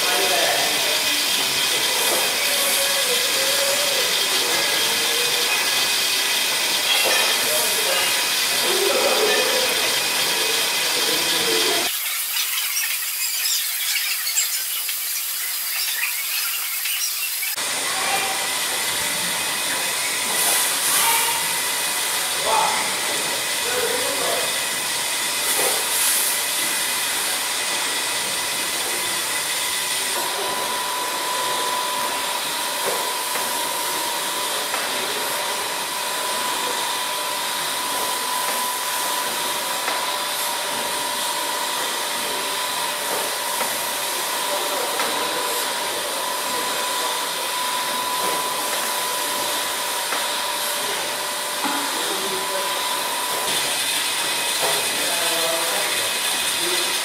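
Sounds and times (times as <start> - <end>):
steam hissing from engine: 0.0 - 57.0.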